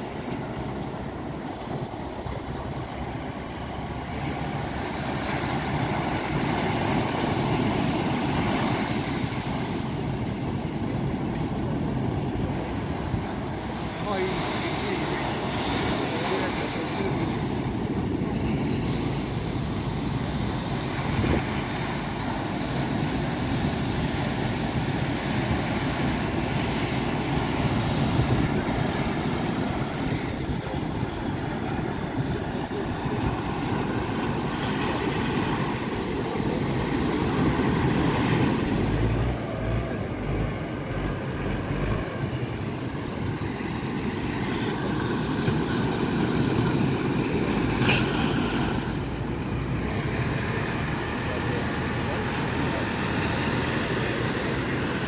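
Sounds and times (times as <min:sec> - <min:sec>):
wind buffeting microphone: 0:00.0 - 0:49.5
surf breaking on beach: 0:00.0 - 0:55.0.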